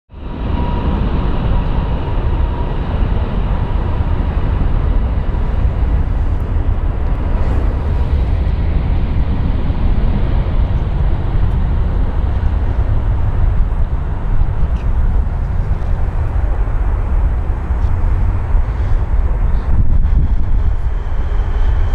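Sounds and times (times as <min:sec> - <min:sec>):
jet engine whine: 0:00.1 - 0:21.9
jet engines rumbling: 0:00.1 - 0:21.9.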